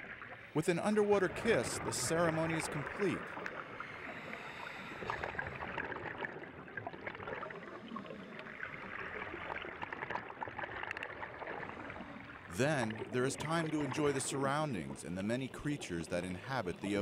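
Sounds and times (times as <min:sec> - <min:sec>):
underwater bubbling from regulators: 0:00.0 - 0:17.0.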